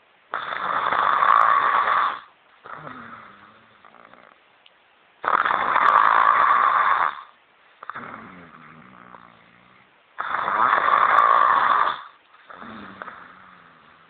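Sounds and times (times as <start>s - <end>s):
woman snoring: 0.3s - 4.4s, 5.2s - 14.0s.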